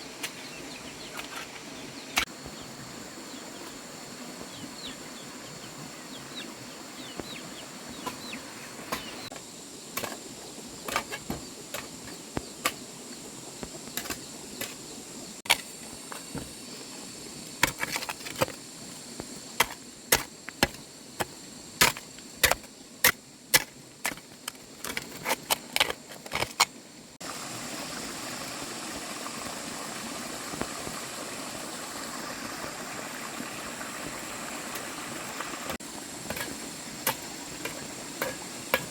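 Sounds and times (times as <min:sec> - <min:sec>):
outdoor background noise: 0:00.0 - 0:38.9
steady hiss: 0:00.0 - 0:38.9.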